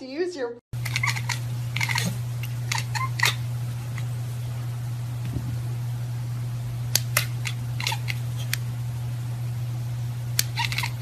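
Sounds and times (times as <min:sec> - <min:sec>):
steady low hum: 0:00.8 - 0:11.0.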